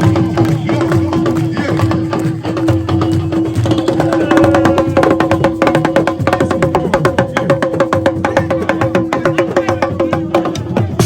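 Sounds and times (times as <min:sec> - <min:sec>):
fast dense drumming: 0:00.0 - 0:11.0.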